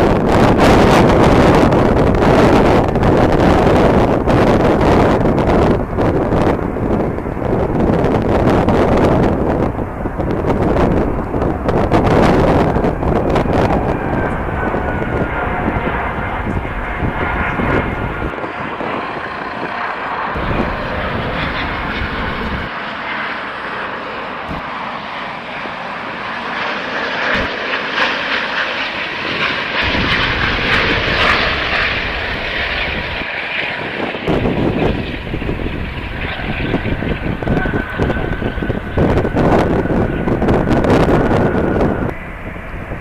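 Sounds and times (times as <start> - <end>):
wind buffeting microphone: 0.0 - 22.8, 24.5 - 24.7, 27.3 - 27.5, 29.2 - 43.0
jet engines passing: 0.0 - 43.0.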